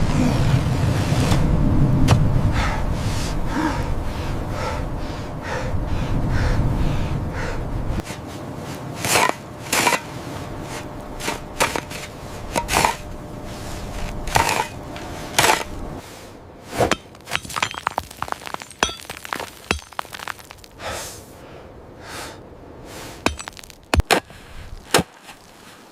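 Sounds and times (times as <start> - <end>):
loud low rumble with crunching: 0.0 - 20.8.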